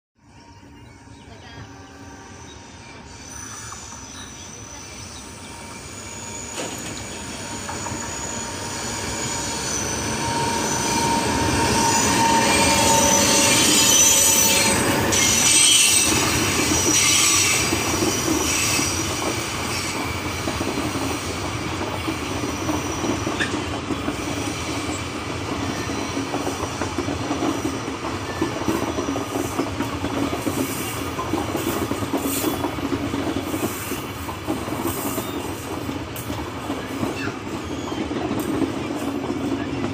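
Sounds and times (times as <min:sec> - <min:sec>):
locomotive passing: 0:00.5 - 0:39.9.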